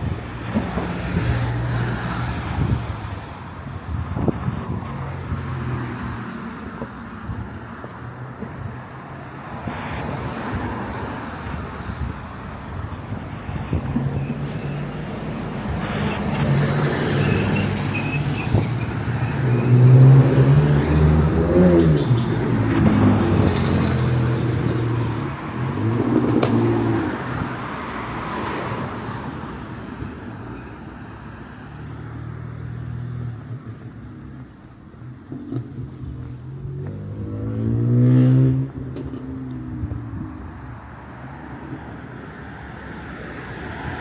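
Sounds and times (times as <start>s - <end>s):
vehicles driving past: 0.0s - 44.0s.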